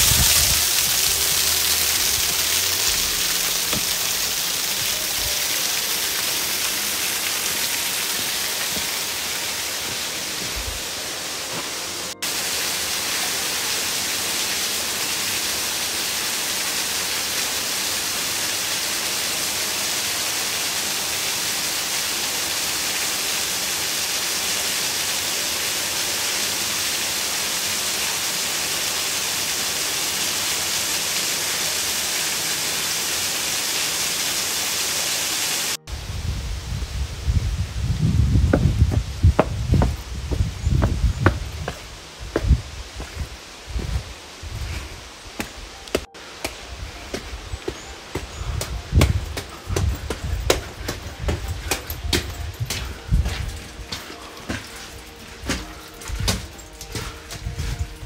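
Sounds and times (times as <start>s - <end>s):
waterfall rushing: 0.0s - 36.2s, 37.3s - 58.0s.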